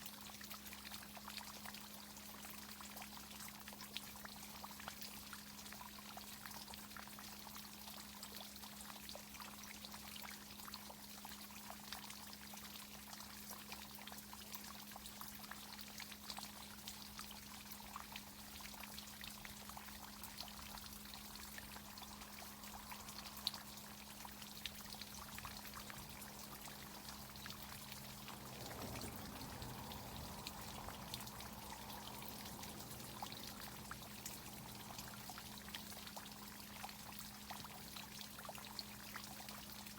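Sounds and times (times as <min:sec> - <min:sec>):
water pouring and trickling: 0:00.0 - 0:39.9.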